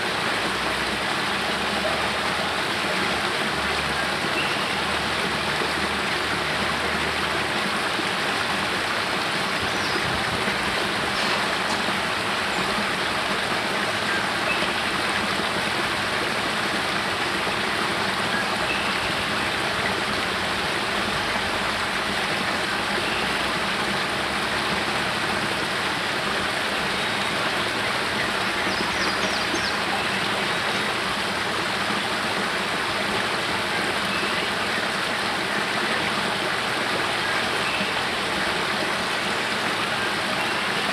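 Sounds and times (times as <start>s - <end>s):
water cascading over rocks: 0.0s - 40.9s.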